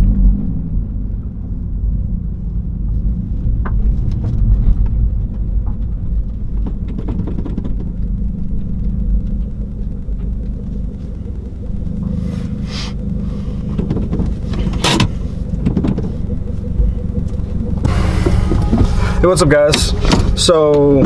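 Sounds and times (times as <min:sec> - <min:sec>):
car exhaust rumbling: 0:00.0 - 0:21.0
exhaust pops: 0:00.0 - 0:21.0.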